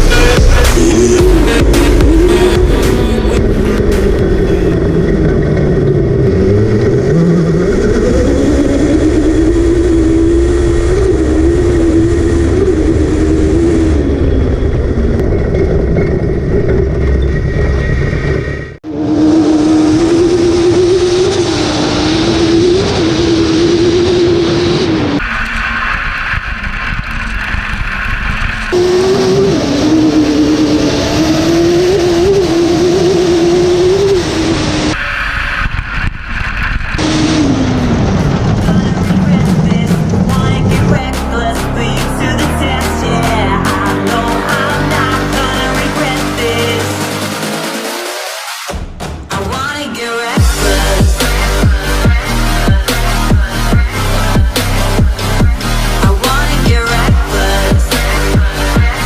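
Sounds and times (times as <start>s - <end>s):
engine revving hard: 0.0s - 27.6s, 28.5s - 35.6s, 36.8s - 48.8s, 50.4s - 59.0s.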